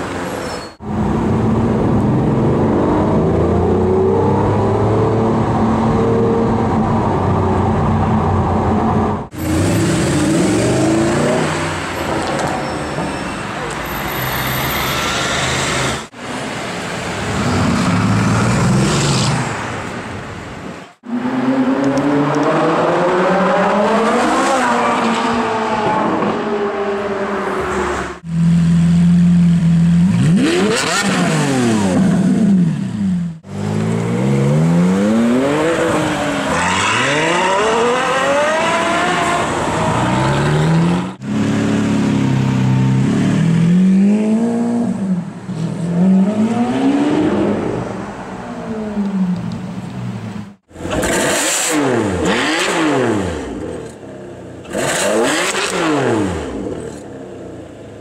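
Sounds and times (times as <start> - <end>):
sports car engines revving: 0.8 - 12.6, 21.0 - 58.0.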